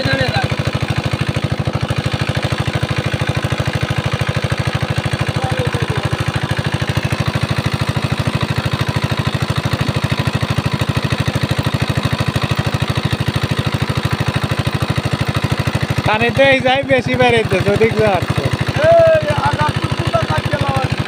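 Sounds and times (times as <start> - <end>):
diesel engine chugging: 0.0 - 21.0.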